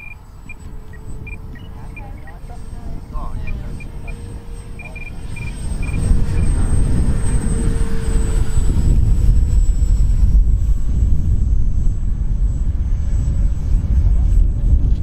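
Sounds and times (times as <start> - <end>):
heavy low rumble: 0.0 - 15.0
model jet fan whining: 0.0 - 15.0.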